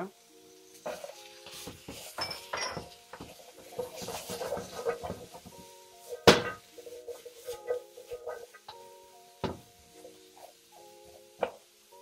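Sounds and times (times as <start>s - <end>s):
background music: 0.0s - 12.0s
utensil scraping a wok: 0.6s - 11.6s.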